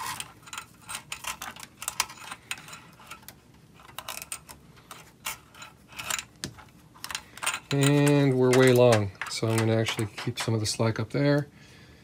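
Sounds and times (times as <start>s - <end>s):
cable clicking and rustling: 0.0s - 11.5s.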